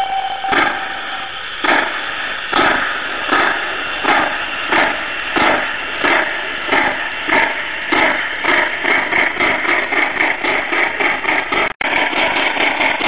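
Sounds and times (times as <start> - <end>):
model steam locomotive chuffs: 0.0 - 13.0.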